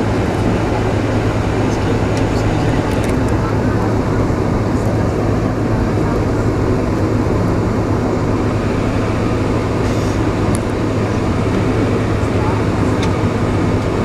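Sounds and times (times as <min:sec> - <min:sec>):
aircraft cabin engine rush: 0:00.0 - 0:14.0
constant low hum: 0:00.0 - 0:14.0.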